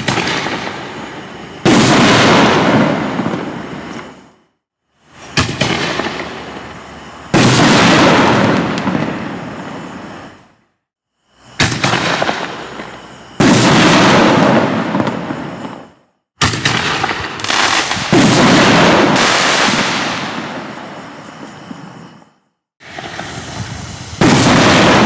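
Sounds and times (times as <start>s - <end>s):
firework shells booming: 0.0s - 4.4s, 5.1s - 10.5s, 11.4s - 22.2s, 22.8s - 25.0s.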